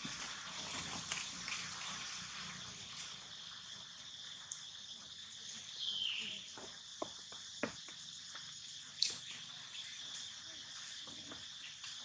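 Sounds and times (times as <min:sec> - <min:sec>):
insects chirring: 0:00.1 - 0:12.0.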